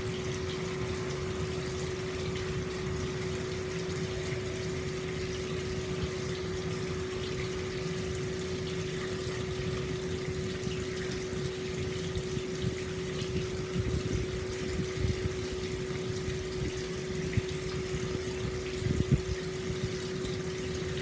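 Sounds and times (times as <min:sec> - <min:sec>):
steady hum: 0:00.0 - 0:21.0
water pouring and splashing: 0:00.0 - 0:21.0.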